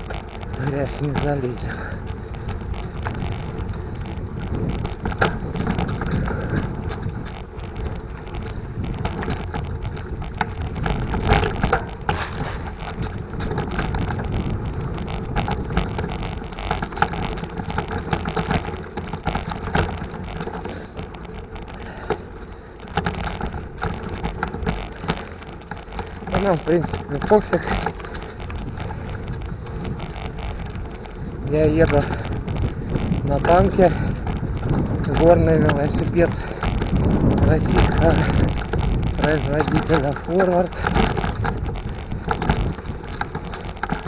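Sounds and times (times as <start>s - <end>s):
bike rattling and knocking: 0.0s - 44.0s
tyres and wind rumbling: 0.0s - 44.0s.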